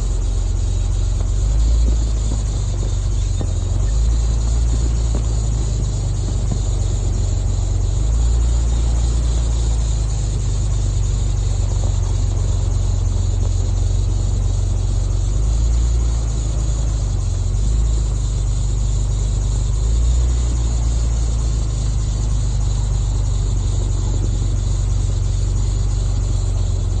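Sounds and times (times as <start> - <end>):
road and air noise hiss: 0.0 - 27.0
vehicle engine rumbling: 0.0 - 27.0.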